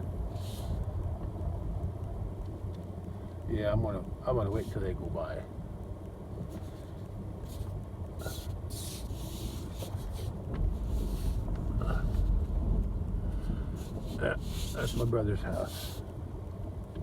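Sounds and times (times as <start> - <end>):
car interior low rumble: 0.0 - 17.0.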